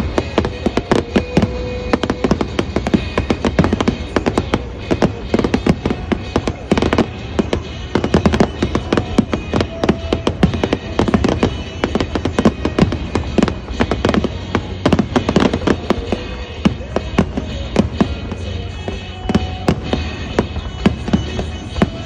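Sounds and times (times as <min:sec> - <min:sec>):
fireworks shells bursting: 0:00.0 - 0:22.0.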